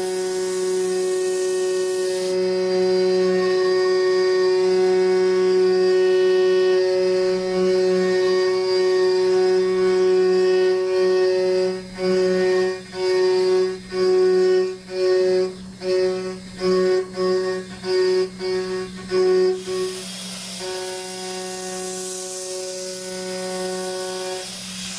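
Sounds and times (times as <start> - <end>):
end mill cutting steel whine: 0.0 - 24.9.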